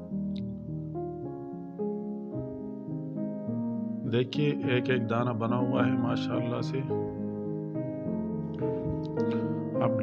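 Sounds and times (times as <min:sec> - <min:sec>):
piano-like keyboard music: 0:00.0 - 0:10.0.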